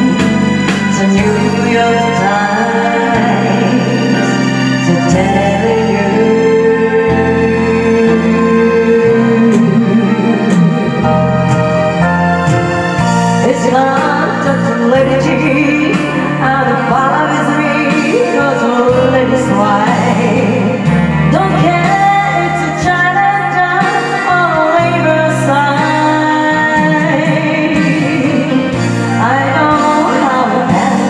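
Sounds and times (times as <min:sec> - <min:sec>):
backing track with bass and keyboard: 0:00.0 - 0:31.0
person singing pop song: 0:00.0 - 0:31.0.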